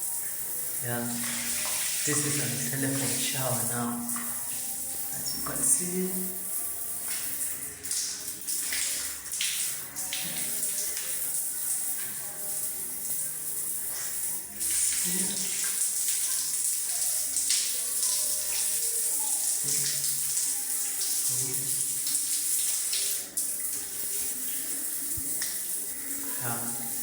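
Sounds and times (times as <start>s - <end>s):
water spraying from shower head: 0.0s - 27.0s.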